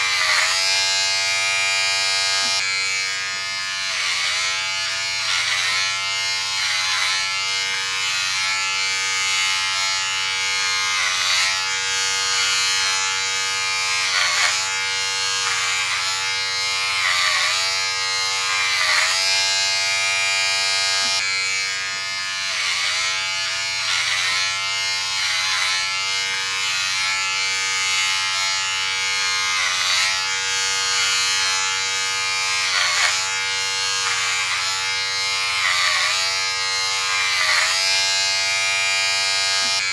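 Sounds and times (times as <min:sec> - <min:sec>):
electric hair clipper buzzing: 0:00.0 - 0:39.9.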